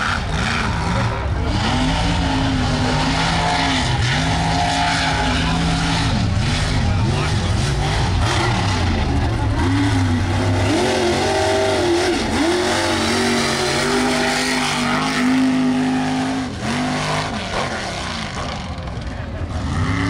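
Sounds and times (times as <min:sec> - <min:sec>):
truck engine racing at high revs: 0:00.0 - 0:20.0.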